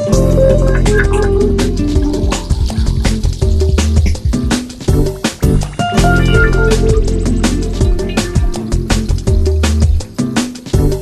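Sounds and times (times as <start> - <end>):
sustained instrumental notes: 0.0 - 9.6
drums: 0.0 - 11.0.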